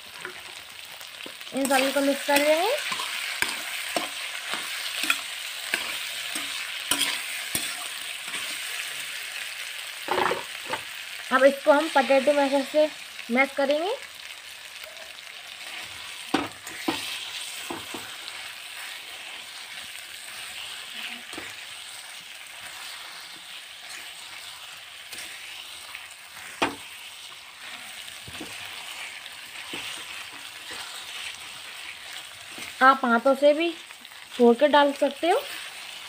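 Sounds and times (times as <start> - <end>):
potatoes sizzling in oil: 0.0 - 36.0.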